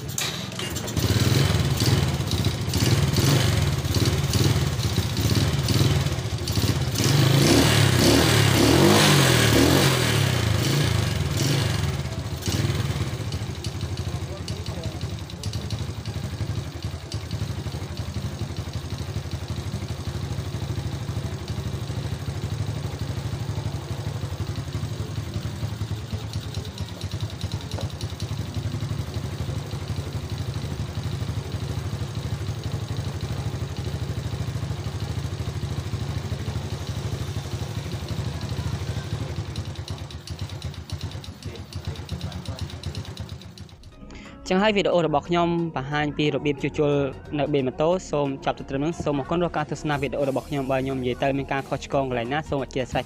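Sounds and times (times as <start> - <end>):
motorcycle engine idling: 0.0 - 44.3.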